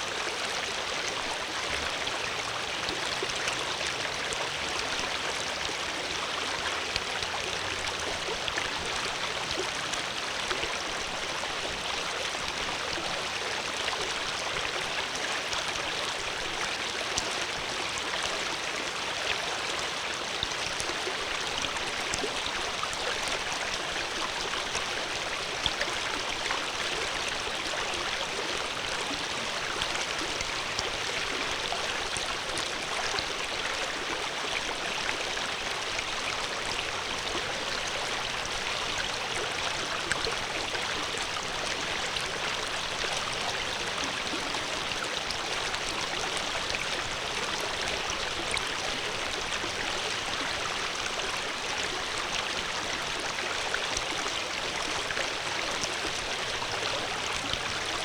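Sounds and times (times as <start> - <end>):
water splashes and trickles: 0.0 - 58.0.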